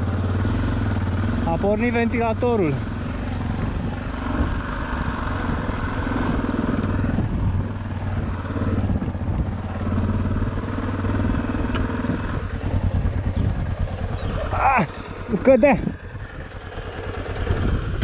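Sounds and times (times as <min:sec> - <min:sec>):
motorcycle idling: 0:00.0 - 0:18.0.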